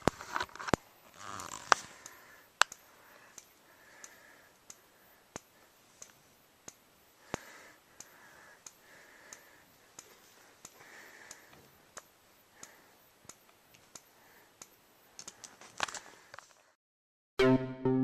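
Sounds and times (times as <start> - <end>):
fire alarm strobe clicks: 0.0 - 16.0
faint high-pitched recharge whine: 0.0 - 16.2.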